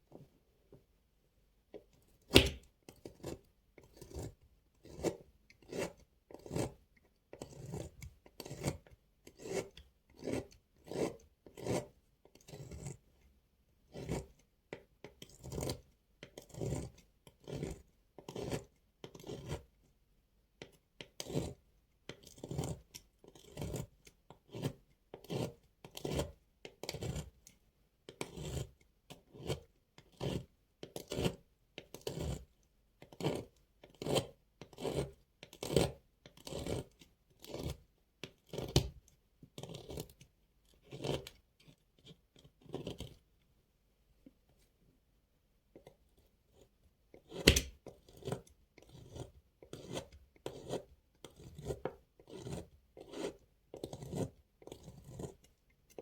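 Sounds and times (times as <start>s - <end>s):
blade cutting dry soap: 1.6s - 43.5s, 45.6s - 56.0s.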